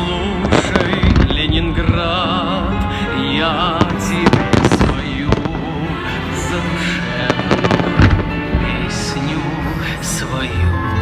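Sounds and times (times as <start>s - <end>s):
fireworks bangs and crackles: 0.0s - 9.6s
music: 0.0s - 11.0s.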